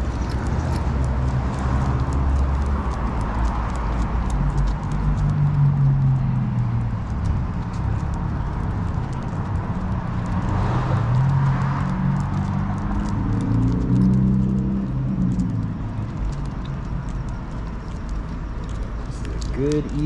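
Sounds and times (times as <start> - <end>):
footsteps on sidewalk: 0.0 - 20.0
low traffic rumble: 0.0 - 20.0
vehicle passing: 0.0 - 20.0.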